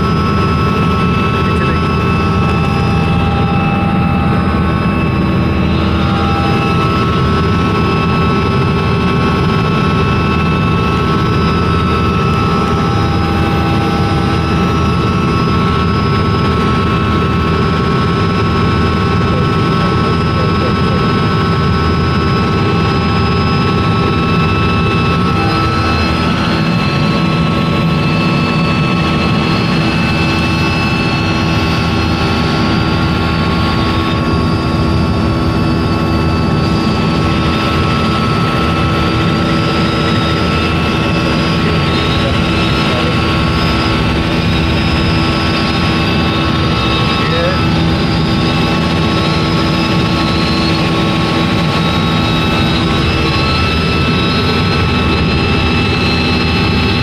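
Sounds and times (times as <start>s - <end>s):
constant whining tones: 0.0s - 57.0s
helicopter engine and rotor: 0.0s - 57.0s.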